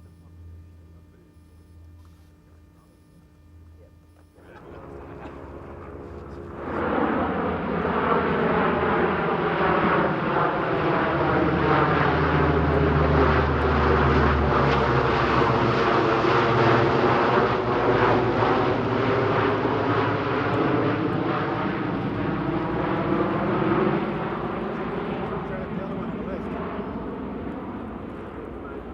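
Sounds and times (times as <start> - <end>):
turboprop aircraft drone: 0.0 - 28.9.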